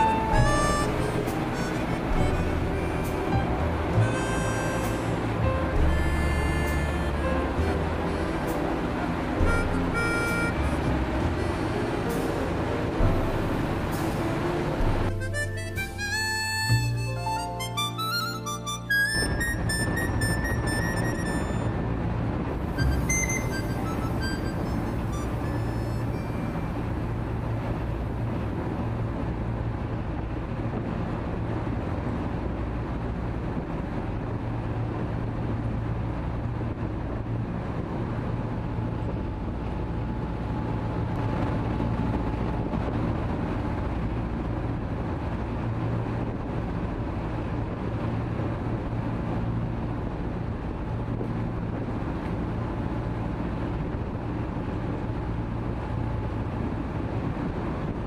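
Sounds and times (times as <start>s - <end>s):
ferry engines droning: 0.0s - 58.0s
rushing churning wake: 0.0s - 58.0s.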